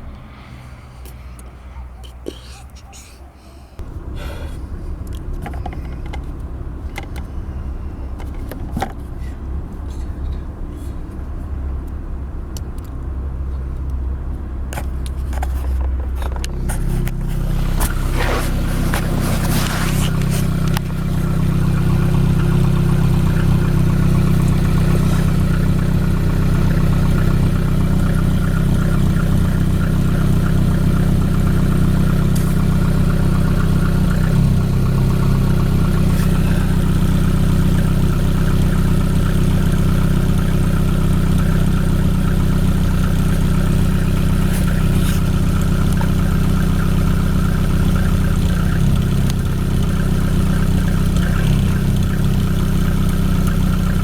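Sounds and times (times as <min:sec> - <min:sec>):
petrol engine idling: 0:00.0 - 0:54.0.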